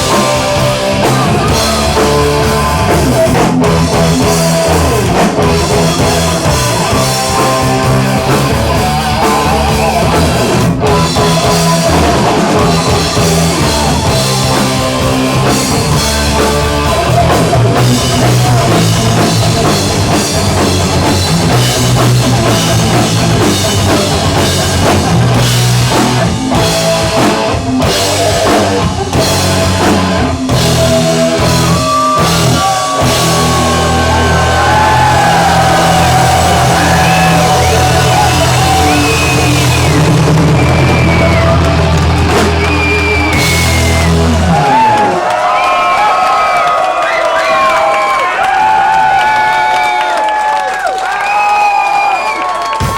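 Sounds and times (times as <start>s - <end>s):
bass guitar: 0.0s - 45.5s
drum kit: 0.0s - 46.1s, 51.3s - 52.9s
electric guitar: 0.0s - 46.1s.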